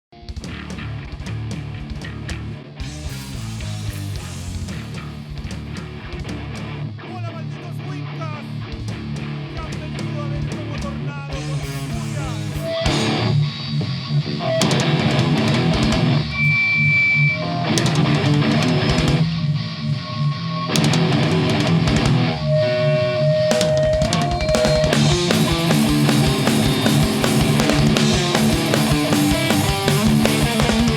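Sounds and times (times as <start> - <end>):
heavy metal band playing live: 0.2 - 30.9.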